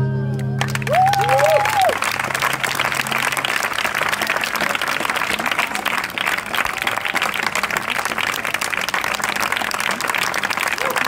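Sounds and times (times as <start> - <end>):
audience applauding: 0.6 - 11.0.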